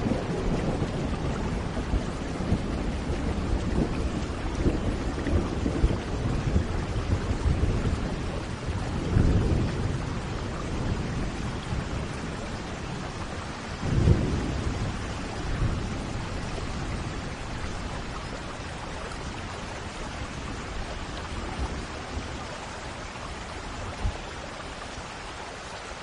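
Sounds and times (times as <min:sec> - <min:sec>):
thunder rumbling: 0:00.0 - 0:24.4
rain hissing: 0:00.0 - 0:26.0.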